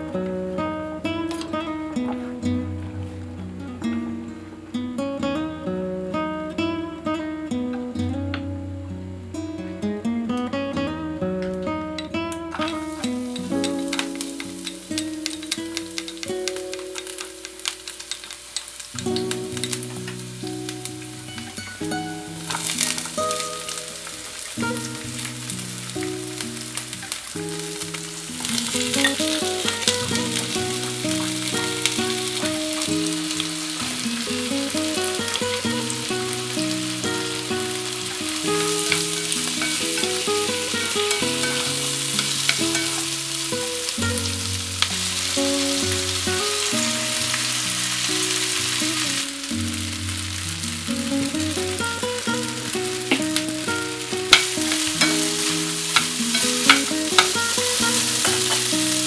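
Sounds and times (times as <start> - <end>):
vegetables sizzling in a frying pan: 0.0 - 9.3, 10.8 - 59.0
gentle instrumental music: 0.0 - 59.0.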